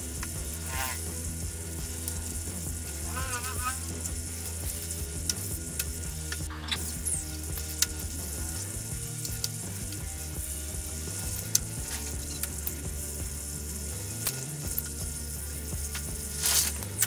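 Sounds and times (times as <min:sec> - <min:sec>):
metal chips ticking: 0:00.0 - 0:17.0.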